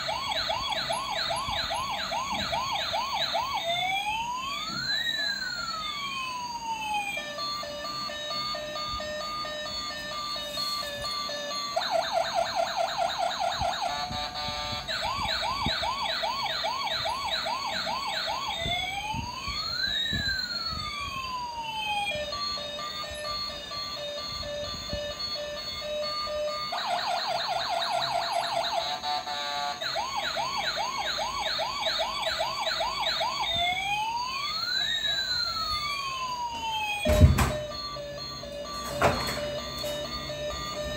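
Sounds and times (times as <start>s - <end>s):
toy motor and wheels rumbling: 0.0s - 37.0s
toy siren beeps and wails: 0.0s - 40.9s.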